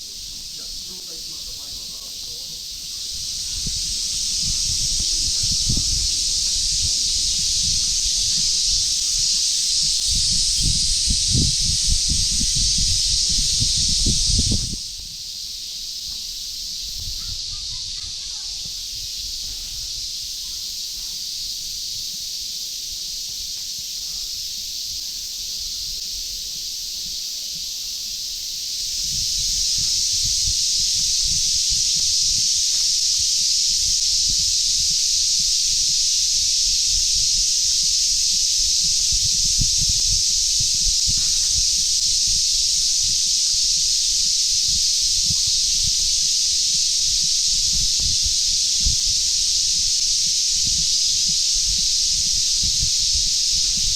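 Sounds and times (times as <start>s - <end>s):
cicadas droning: 0.0s - 53.9s.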